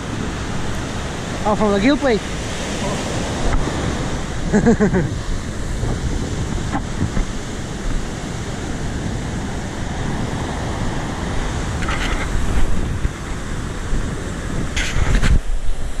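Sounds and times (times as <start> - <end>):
ocean surf washing on beach: 0.0 - 16.0
wind buffeting microphone: 0.0 - 16.0.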